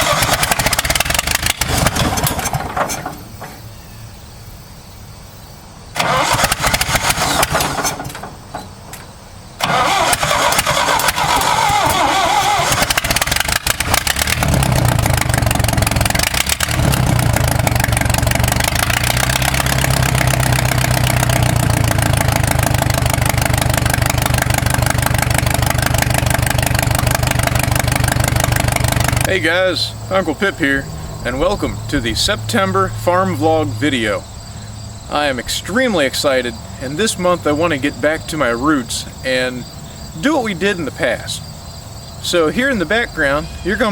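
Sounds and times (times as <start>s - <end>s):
tractor engine cranking and idling: 0.0s - 3.9s, 5.8s - 43.9s.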